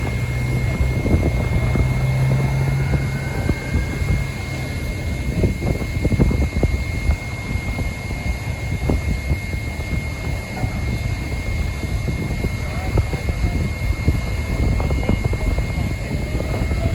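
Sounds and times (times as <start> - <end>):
jet engines spooling up: 0.0 - 16.9.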